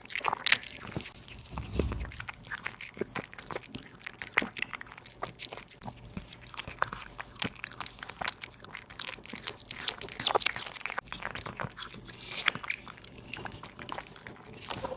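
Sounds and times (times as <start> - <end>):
cat crunching food: 0.0 - 14.9.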